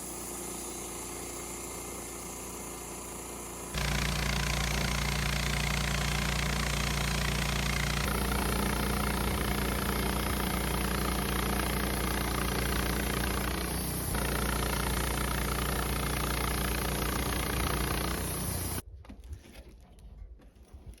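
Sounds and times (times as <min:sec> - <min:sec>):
band sawmill engine running: 0:00.0 - 0:18.8.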